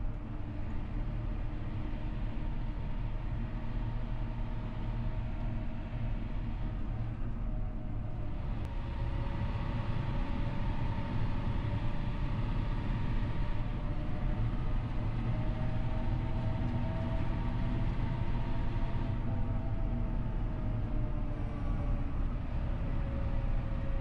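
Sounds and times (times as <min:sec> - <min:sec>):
tractor diesel engine drone: 0:00.0 - 0:24.0.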